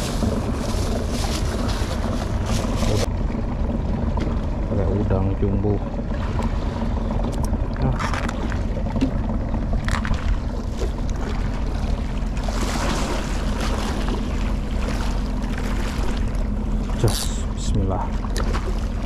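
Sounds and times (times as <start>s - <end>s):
low hum: 0.0s - 19.0s
low outdoor rumble: 0.0s - 19.0s.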